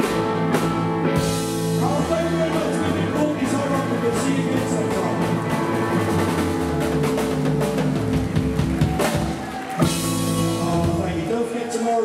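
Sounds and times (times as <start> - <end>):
rock and roll band playing: 0.0 - 12.0.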